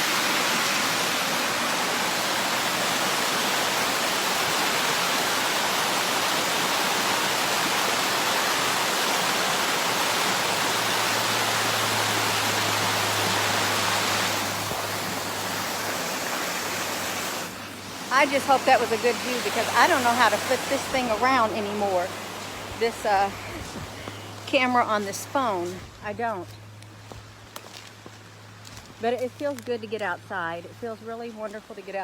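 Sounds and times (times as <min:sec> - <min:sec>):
waterfall rushing: 0:00.0 - 0:25.7.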